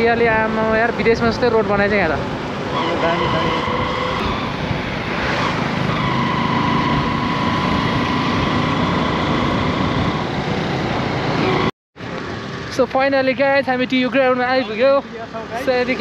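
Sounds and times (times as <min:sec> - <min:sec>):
motorcycle engine and road noise: 0:00.0 - 0:16.0.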